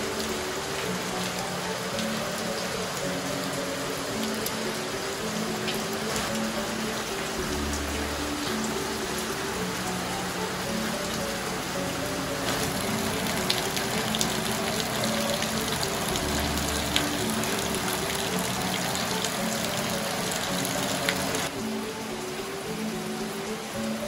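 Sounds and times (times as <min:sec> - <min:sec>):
drops ticking close by: 0:00.0 - 0:23.9
heavy rain on gravel: 0:00.0 - 0:24.0
soft background music: 0:00.0 - 0:24.0.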